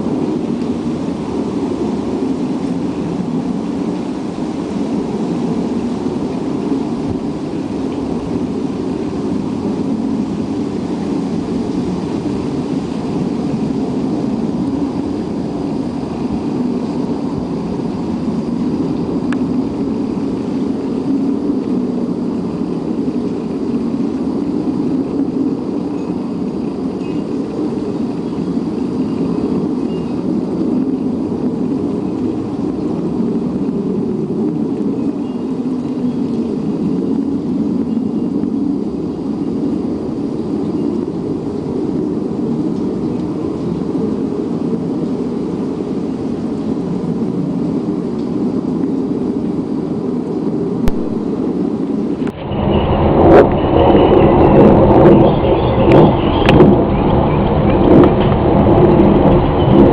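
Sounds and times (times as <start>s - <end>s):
low rumbling drone: 0.0s - 59.9s.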